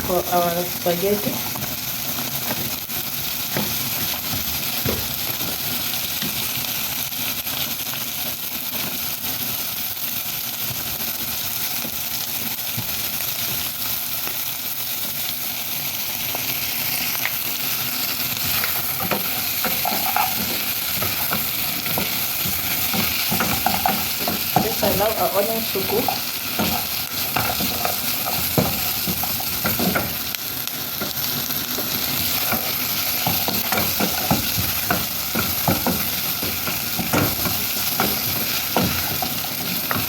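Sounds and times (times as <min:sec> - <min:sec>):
onions sizzling in a pan: 0:00.0 - 0:40.0.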